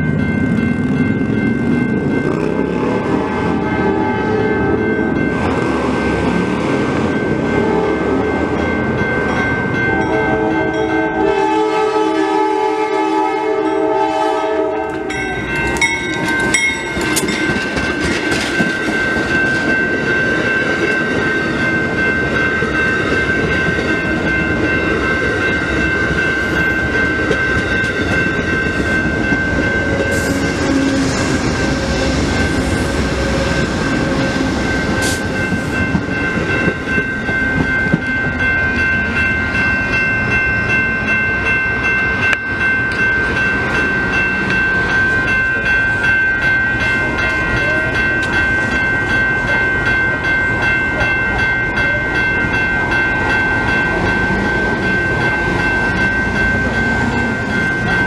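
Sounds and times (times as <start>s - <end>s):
train wheels clattering on rails: 0.0s - 7.6s, 14.8s - 58.0s.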